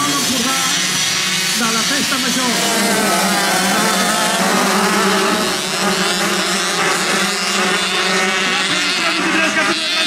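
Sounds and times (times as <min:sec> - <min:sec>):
race car engines running: 0:00.0 - 0:10.0.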